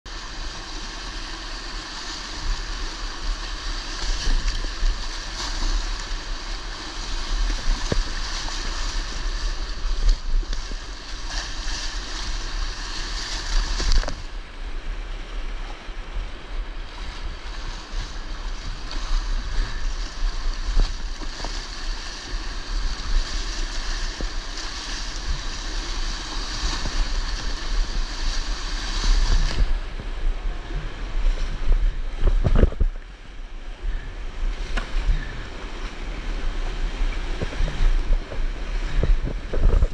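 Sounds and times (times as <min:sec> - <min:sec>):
low microphone rumble: 0:00.1 - 0:39.9
rapids rushing and splashing: 0:00.1 - 0:39.9.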